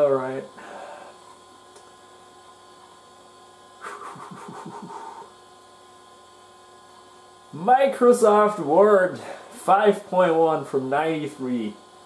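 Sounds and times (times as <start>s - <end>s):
computer hum and whine: 0.0s - 12.0s.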